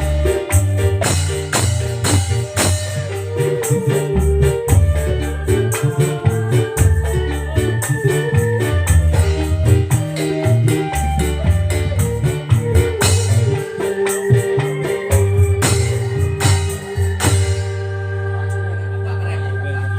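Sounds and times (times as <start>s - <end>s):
shaken and struck percussion: 0.0s - 18.8s
electronic organ melody: 0.0s - 19.9s
heavy bass line: 0.0s - 19.9s.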